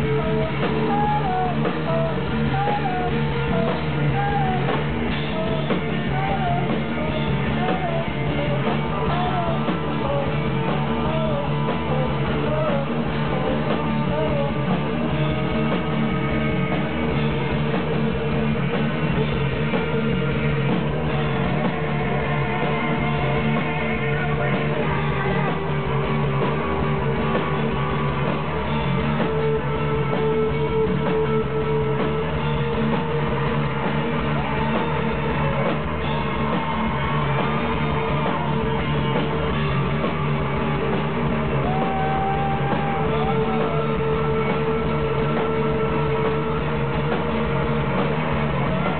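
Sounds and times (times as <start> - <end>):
distorted electric guitars: 0.0 - 48.9
drums: 0.0 - 48.9.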